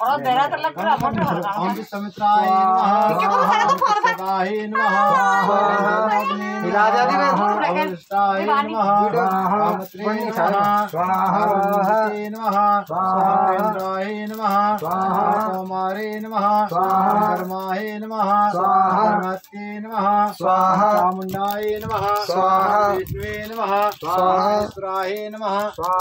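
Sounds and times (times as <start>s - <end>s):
person chanting mantras: 1.6s - 26.0s.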